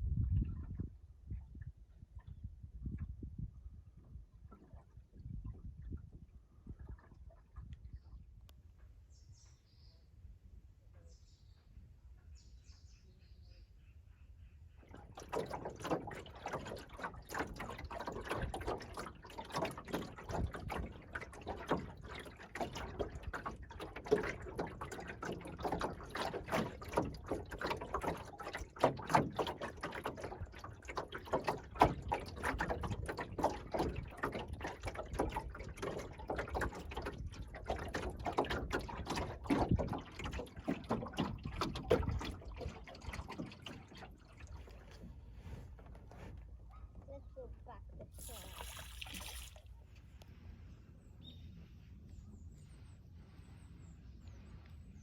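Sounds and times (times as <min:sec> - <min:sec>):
water lapping against hull: 0:00.0 - 0:09.9, 0:12.3 - 0:55.0.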